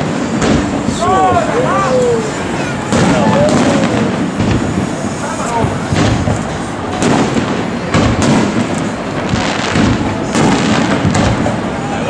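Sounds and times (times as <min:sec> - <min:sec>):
firework shells booming: 0:00.0 - 0:12.0
rumble of fireworks display: 0:00.0 - 0:12.0.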